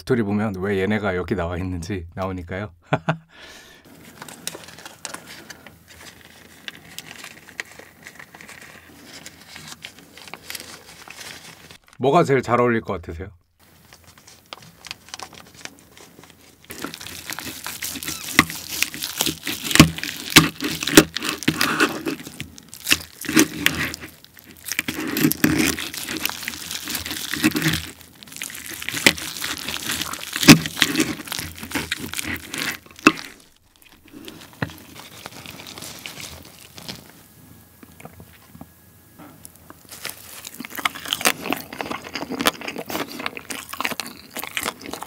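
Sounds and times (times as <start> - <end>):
crackling and crunching: 3.8 - 12.1, 13.6 - 45.0.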